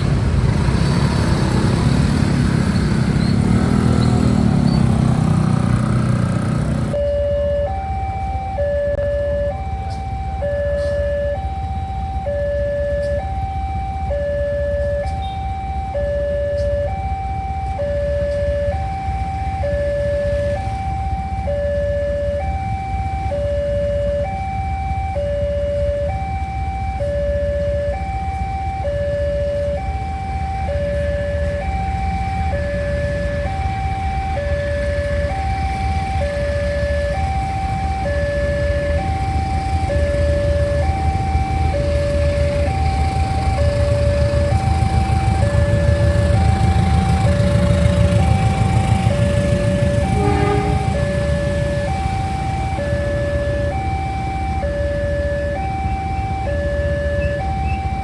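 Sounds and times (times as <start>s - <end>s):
level crossing two-tone alarm: 6.9s - 58.0s.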